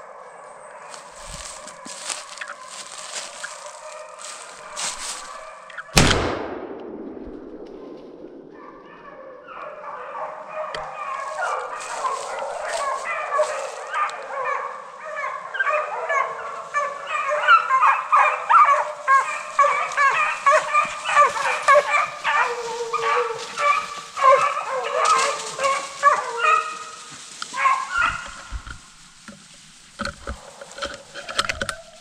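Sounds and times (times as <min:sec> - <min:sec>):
hounds baying: 0:00.0 - 0:06.0, 0:08.5 - 0:32.0.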